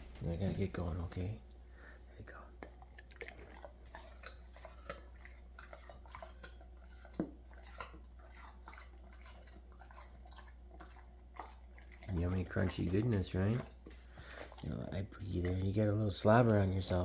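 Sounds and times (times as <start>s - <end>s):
dog chewing apple: 2.3s - 17.0s.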